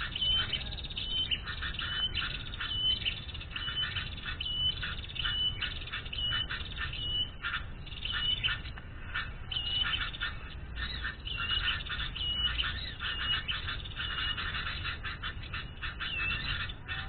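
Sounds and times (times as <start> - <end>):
bird whistling: 0.0 - 8.7, 9.5 - 17.0
bird chattering chirps: 0.0 - 17.0.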